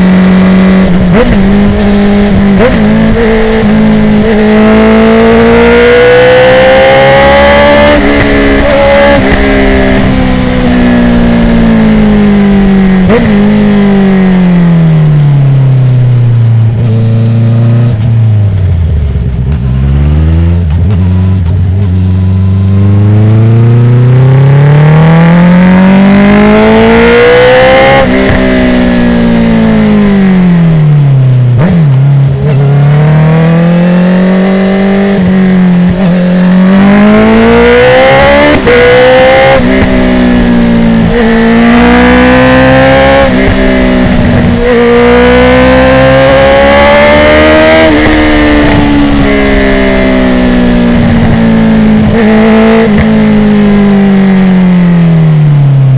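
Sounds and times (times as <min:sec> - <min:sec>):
motorcycle engine revving through gears: 0:00.0 - 0:55.9.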